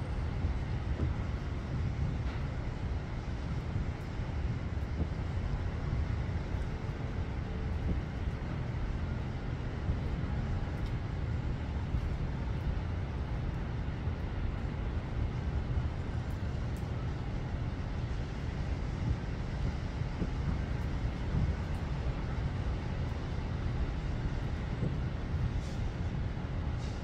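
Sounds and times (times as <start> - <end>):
wind buffeting microphone: 0.0 - 27.0
heavy rain hiss: 0.1 - 27.0.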